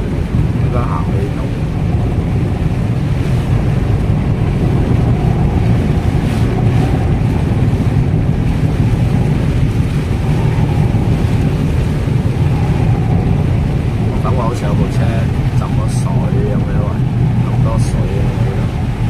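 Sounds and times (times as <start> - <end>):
car driving through deep water: 0.0 - 19.0
rain: 0.0 - 19.0
wind: 0.0 - 19.0.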